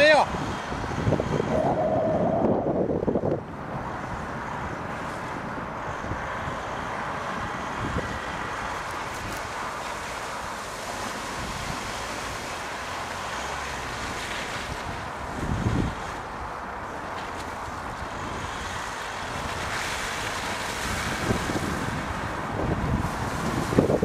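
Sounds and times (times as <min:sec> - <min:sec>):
distant off-road engine running: 0:00.0 - 0:24.0
wind rushing over microphone: 0:00.0 - 0:24.0.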